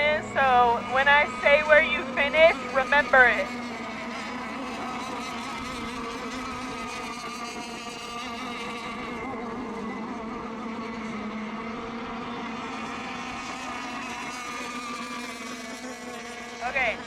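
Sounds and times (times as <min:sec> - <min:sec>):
model boat motors whining: 0:00.0 - 0:17.0.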